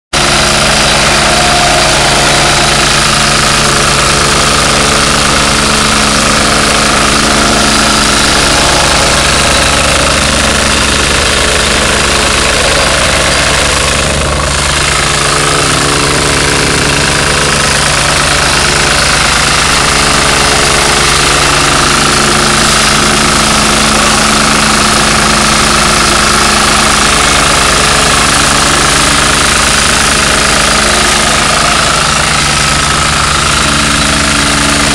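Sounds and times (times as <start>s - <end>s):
diesel engine running: 0.1s - 34.9s
plate compactor clattering on gravel: 0.2s - 34.9s.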